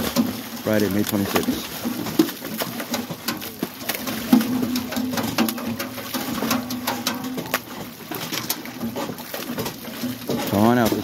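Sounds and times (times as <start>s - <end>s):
fish splashing into water: 0.0s - 11.0s.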